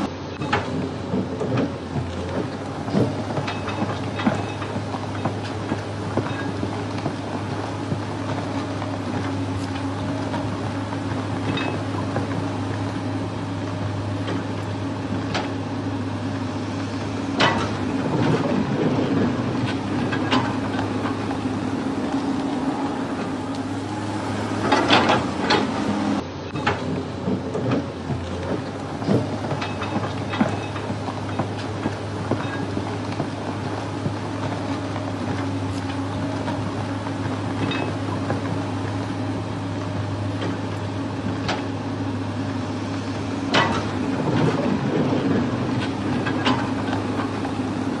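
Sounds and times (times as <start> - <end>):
knocks and clatter: 0.0 - 15.7, 17.4 - 23.8, 24.6 - 25.9, 26.5 - 39.1, 43.5 - 48.0
vehicle engine droning: 0.0 - 48.0.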